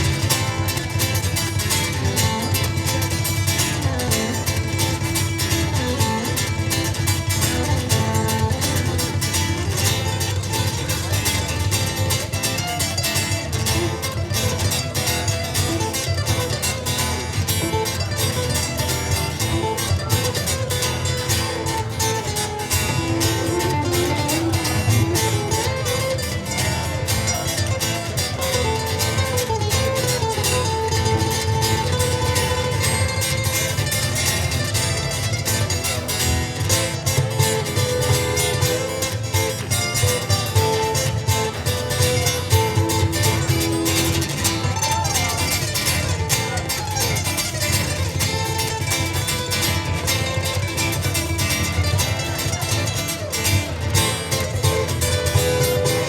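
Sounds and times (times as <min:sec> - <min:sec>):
picked ukulele melody: 0:00.0 - 0:56.0
strummed guitar chords: 0:00.0 - 0:56.0.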